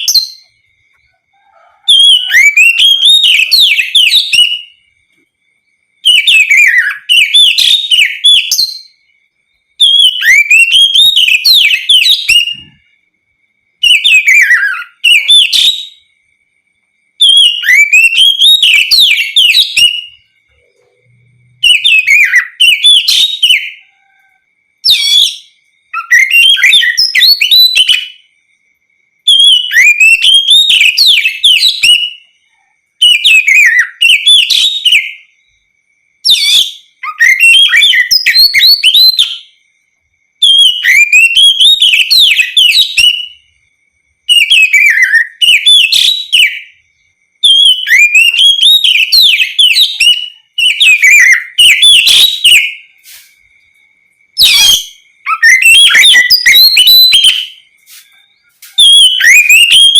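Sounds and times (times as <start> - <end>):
bird singing whistles and trills: 0.0 - 13.1, 13.7 - 16.4, 17.0 - 28.6, 29.2 - 39.7, 40.4 - 59.9.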